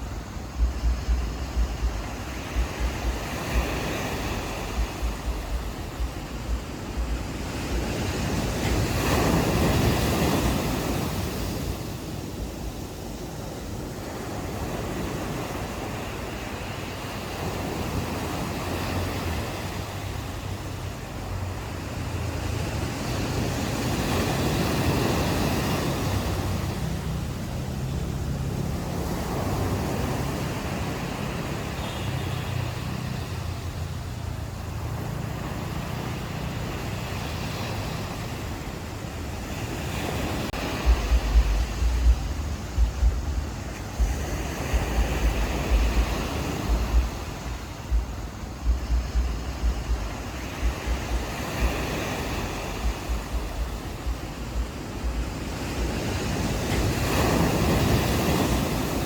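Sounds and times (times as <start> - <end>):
ocean waves breaking on shore: 0.0 - 59.0
wind: 0.0 - 59.0
wind buffeting microphone: 0.0 - 59.0.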